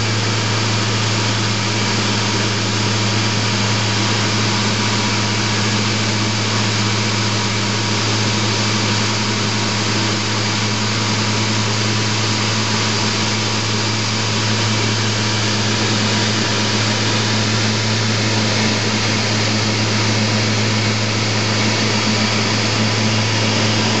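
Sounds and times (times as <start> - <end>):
aircraft engine drone in cabin: 0.0 - 24.0
airflow rushing: 0.0 - 24.0.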